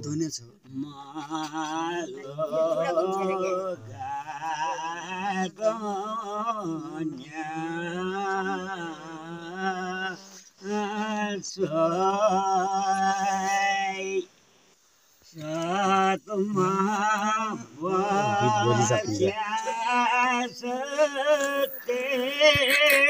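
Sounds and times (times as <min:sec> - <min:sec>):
man singing unaccompanied: 0:00.6 - 0:14.3, 0:15.3 - 0:23.0.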